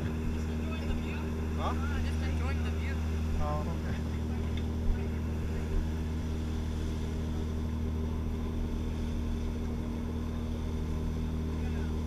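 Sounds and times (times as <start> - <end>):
boat engine droning: 0.0 - 12.0
water rushing in wake: 0.0 - 12.0.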